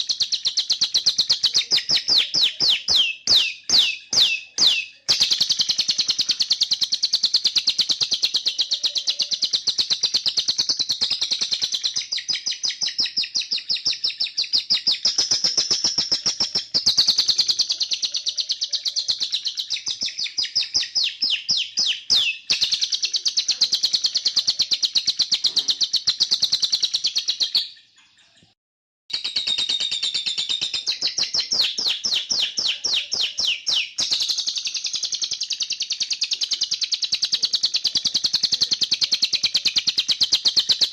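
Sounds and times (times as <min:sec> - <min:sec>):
canary-style trilling song: 0:00.0 - 0:40.9.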